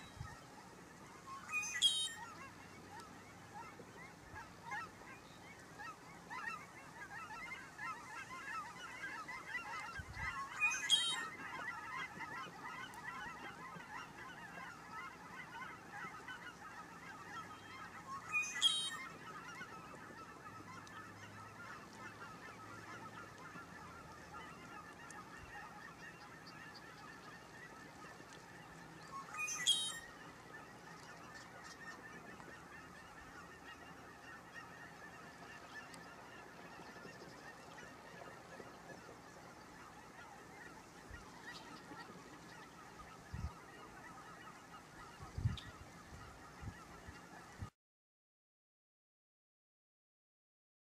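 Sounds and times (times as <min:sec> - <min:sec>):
chatter of many birds: 0:00.0 - 0:47.7.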